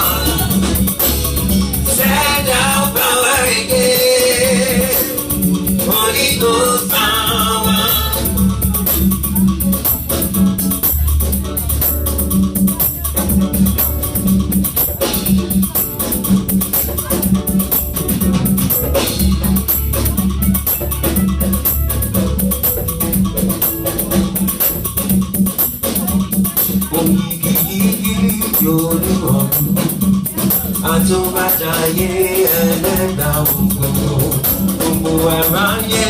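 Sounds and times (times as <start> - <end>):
drums steady beat: 0.0 - 36.0
live band instrumental: 0.0 - 36.0.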